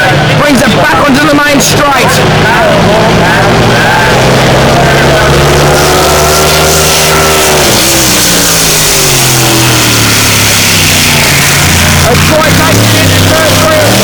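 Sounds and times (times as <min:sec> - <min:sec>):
race boat engine running hard: 0:00.0 - 0:14.0.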